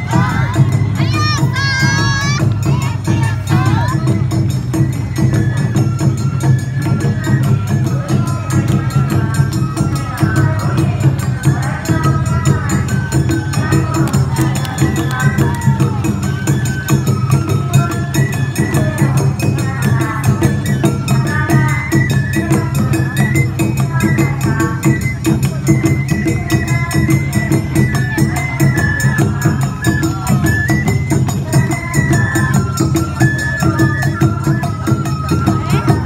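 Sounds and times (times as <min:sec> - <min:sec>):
taiko drumming: 0:00.0 - 0:24.2, 0:25.9 - 0:36.0
bamboo flute melody: 0:00.0 - 0:36.0.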